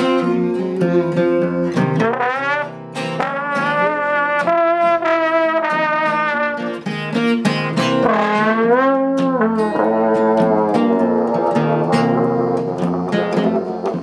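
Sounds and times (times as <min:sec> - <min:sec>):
slide trombone playing: 0:00.0 - 0:14.0
strummed acoustic guitar: 0:00.0 - 0:14.0.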